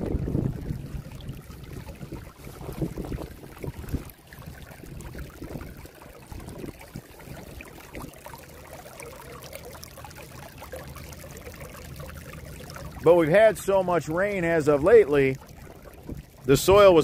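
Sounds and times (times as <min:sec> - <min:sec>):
water bubbling and trickling: 0:00.0 - 0:17.0.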